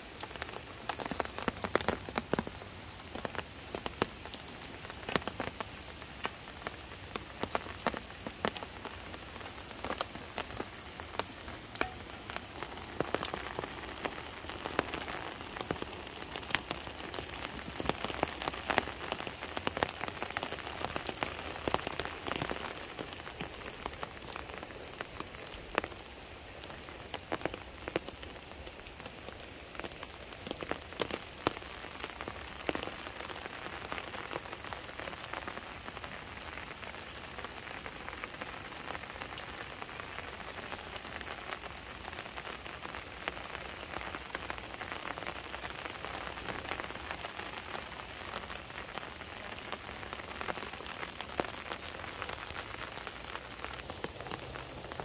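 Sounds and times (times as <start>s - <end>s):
light rain on leaves and grass: 0.0s - 55.0s.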